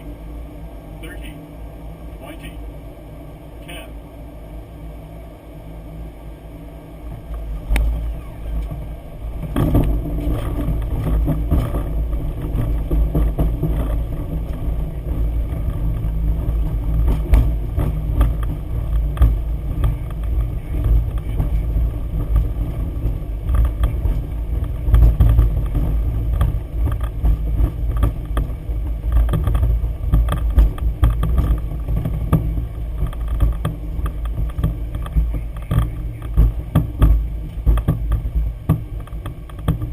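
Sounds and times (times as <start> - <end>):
aircraft cockpit rumble: 0.0 - 39.9
rattles and knocks: 7.1 - 39.9.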